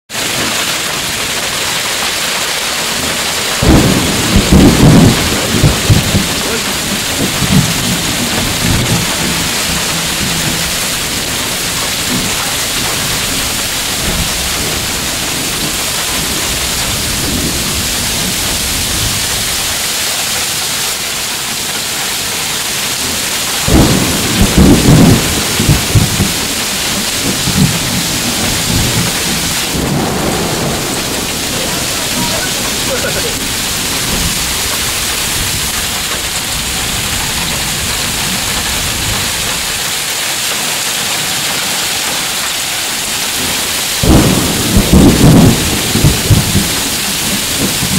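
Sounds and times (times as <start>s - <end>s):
heavy rain and hail: 0.1s - 47.9s
thunder rumbling: 2.9s - 19.9s, 23.0s - 39.9s, 43.0s - 47.9s.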